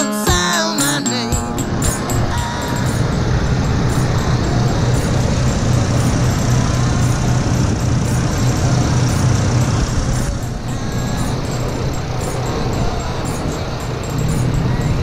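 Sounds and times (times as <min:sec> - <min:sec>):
pickup engine idling: 0:00.3 - 0:15.0.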